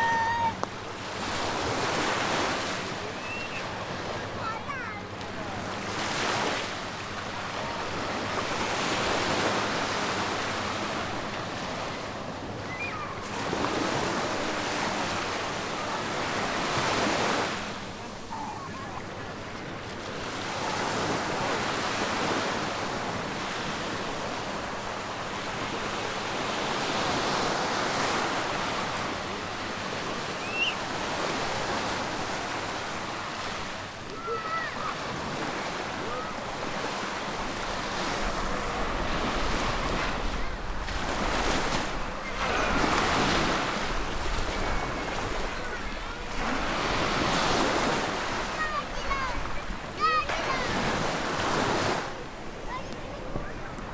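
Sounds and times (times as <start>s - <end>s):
waves breaking on beach: 0.0s - 53.9s.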